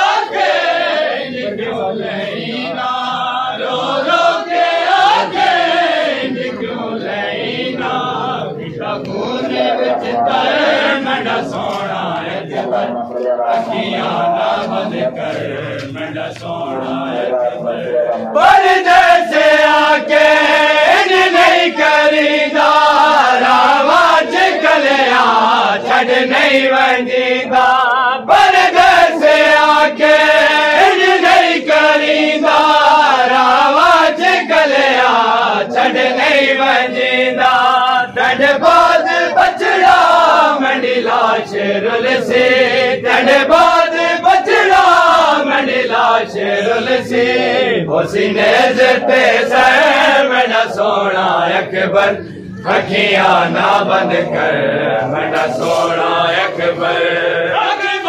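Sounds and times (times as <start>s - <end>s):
lead voice singing: 0.0s - 58.0s
men chanting in unison: 0.0s - 58.0s.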